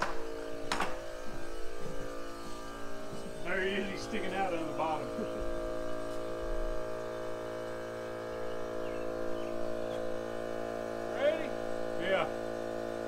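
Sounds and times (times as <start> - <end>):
steady multi-tone hum: 0.0 - 13.0.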